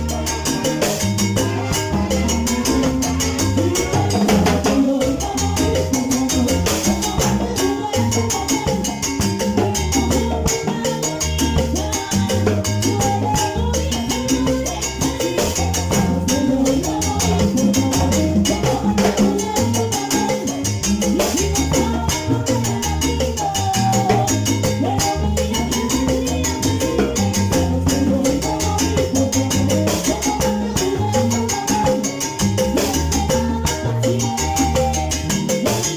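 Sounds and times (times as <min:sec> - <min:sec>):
bass line: 0:00.0 - 0:35.9
dense percussion: 0:00.0 - 0:35.9
salsa band playing: 0:00.0 - 0:35.9.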